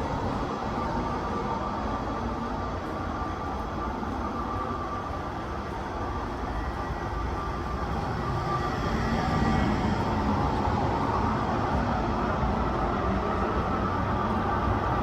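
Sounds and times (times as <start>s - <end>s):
electric train rumble: 0.0s - 15.0s
faint high whine: 0.0s - 15.0s.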